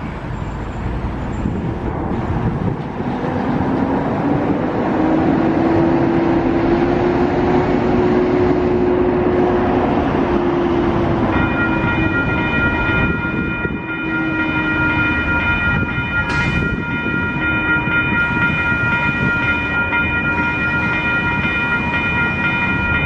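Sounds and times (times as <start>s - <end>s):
diesel locomotive engine: 0.0s - 23.0s.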